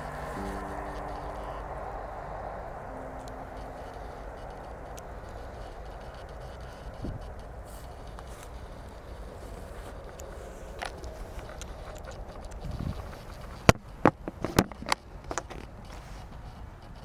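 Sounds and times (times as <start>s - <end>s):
fire rumbling in wood stove: 0.0s - 15.0s
fire crackling: 0.0s - 17.0s.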